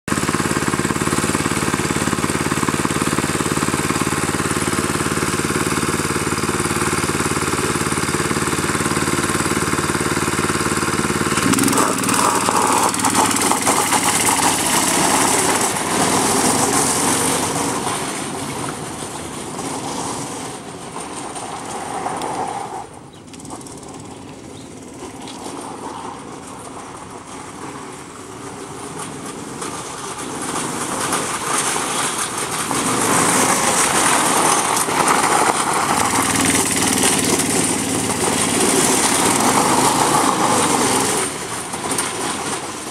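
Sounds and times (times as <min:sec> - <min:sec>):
go-kart engine running: 0:00.1 - 0:42.9
tyres on gravel: 0:00.1 - 0:42.9.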